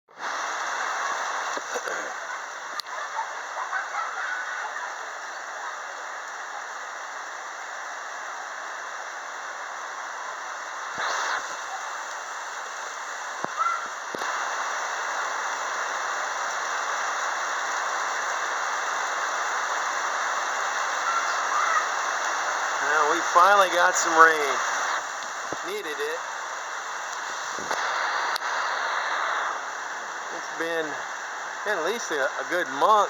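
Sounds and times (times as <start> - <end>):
steady rain falling: 0.4 - 27.7, 29.4 - 33.0.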